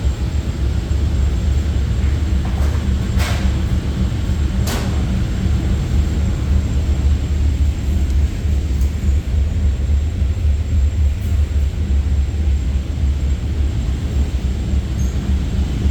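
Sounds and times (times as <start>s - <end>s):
machine running with low rumble: 0.0s - 15.9s.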